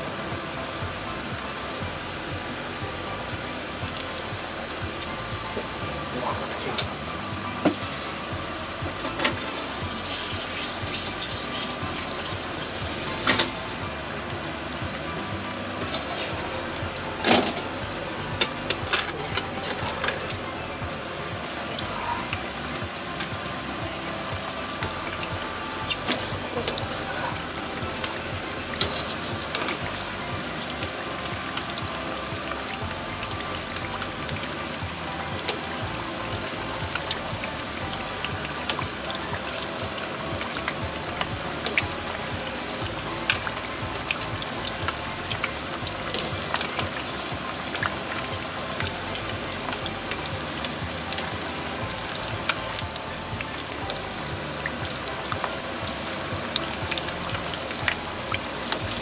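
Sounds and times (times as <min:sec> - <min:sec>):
hot oil sizzling: 0:00.0 - 0:59.0
oil crackling and popping: 0:03.3 - 0:59.0.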